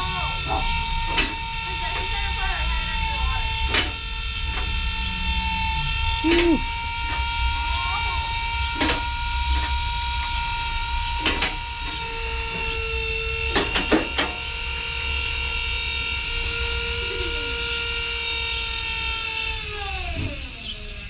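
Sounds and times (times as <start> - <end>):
lower hum: 0.0 - 21.0
small electric motor whine: 0.0 - 21.0.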